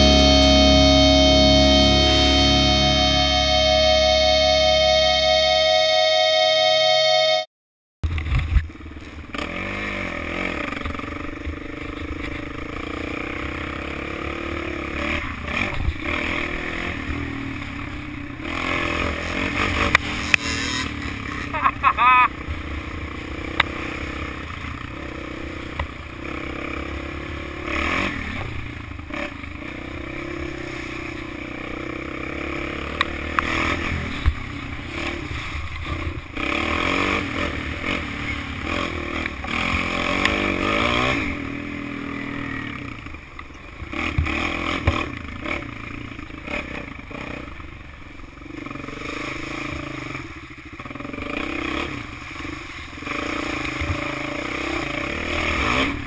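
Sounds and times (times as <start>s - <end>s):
quad engine revving: 0.0s - 5.7s, 9.3s - 43.0s, 43.9s - 47.5s, 48.4s - 56.0s.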